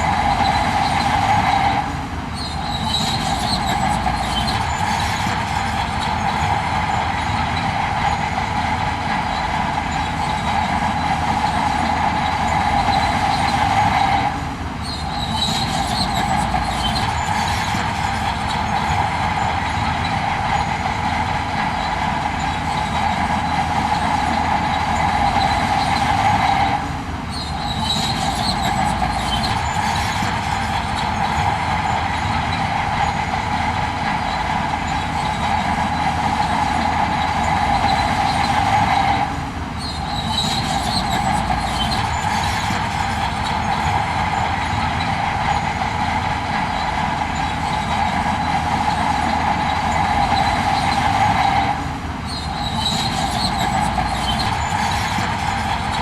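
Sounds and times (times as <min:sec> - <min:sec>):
continuous machine whine: 0:00.0 - 0:56.0
heavy machinery engine drone: 0:00.0 - 0:56.0.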